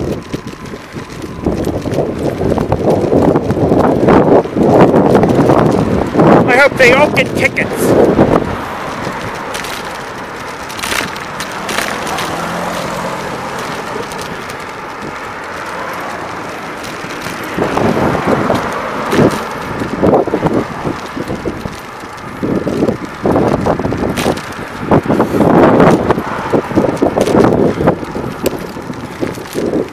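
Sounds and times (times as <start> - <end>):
car passing: 0.0 - 29.9
road traffic noise: 0.0 - 29.9
wind buffeting microphone: 0.0 - 29.9.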